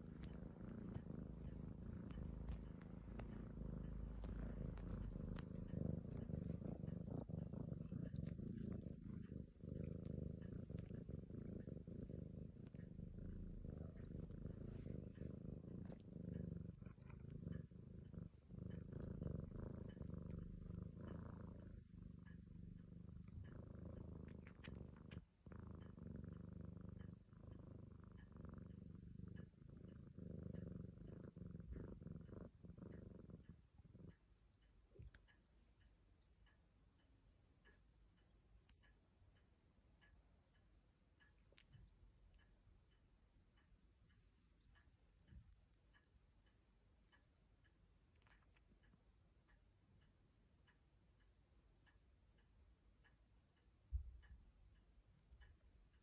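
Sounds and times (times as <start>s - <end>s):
kitten purring: 0.0s - 35.5s, 37.6s - 53.2s.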